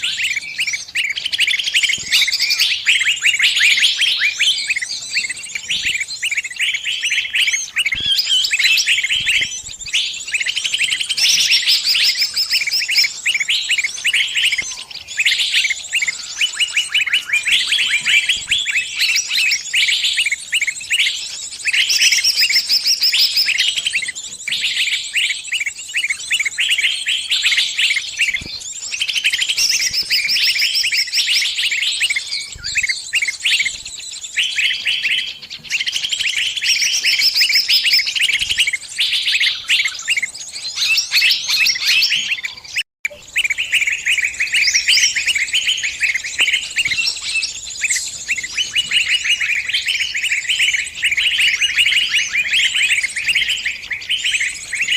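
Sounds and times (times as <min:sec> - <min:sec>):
songbird distress chirps: 0:00.0 - 0:54.9.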